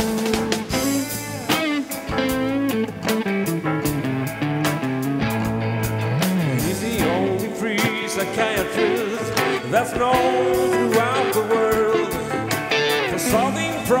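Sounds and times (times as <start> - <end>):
bending lead guitar line: 0.0 - 14.0
live rock band playing: 0.0 - 14.0.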